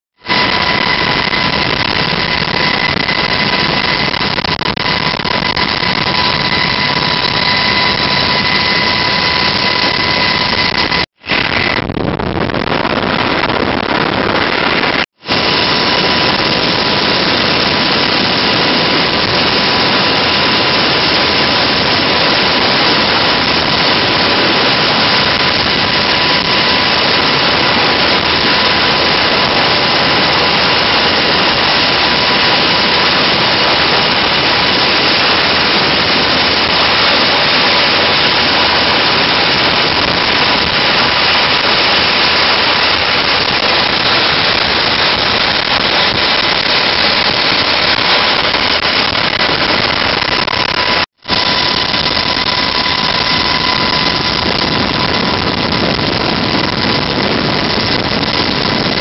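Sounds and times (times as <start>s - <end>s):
faint steady whine: 0.2s - 59.0s
helicopter turbine and rotor noise: 0.2s - 59.0s.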